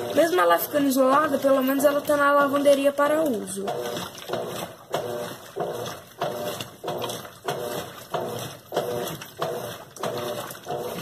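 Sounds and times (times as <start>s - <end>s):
washing machine agitating: 0.0s - 11.0s.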